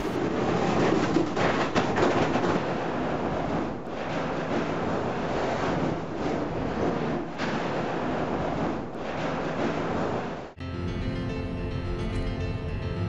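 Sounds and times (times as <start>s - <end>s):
windmill rumbling: 0.0s - 10.5s.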